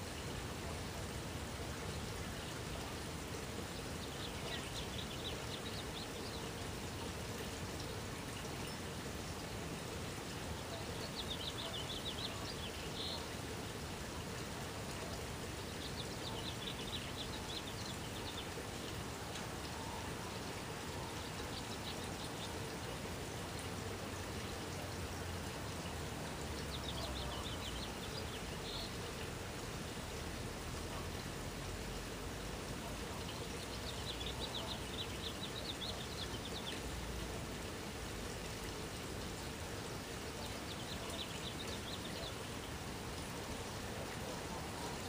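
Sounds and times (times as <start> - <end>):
outdoor background hiss: 0.0 - 45.0.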